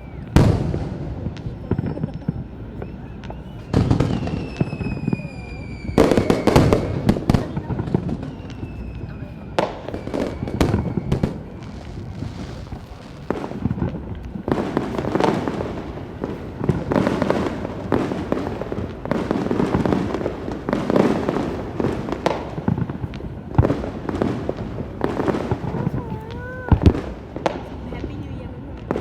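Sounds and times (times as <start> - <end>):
firework bangs: 0.0 - 29.0
fireworks crackle and rumble: 0.0 - 29.0.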